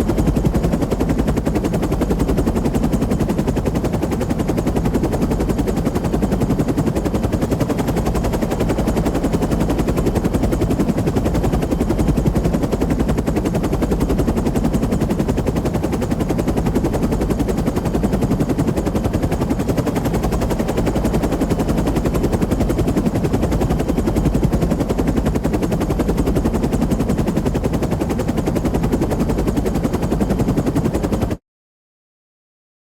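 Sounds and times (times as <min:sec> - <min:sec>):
helicopter engine running: 0:00.0 - 0:31.4
helicopter rotor chopping: 0:00.0 - 0:31.4.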